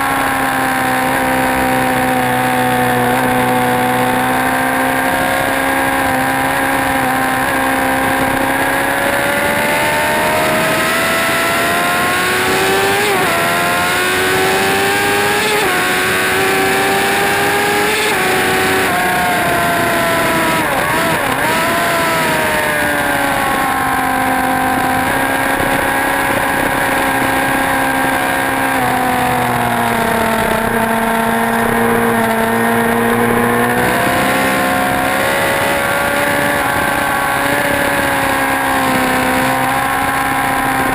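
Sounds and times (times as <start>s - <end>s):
racing motorcycle engine revving: 0.0s - 40.9s.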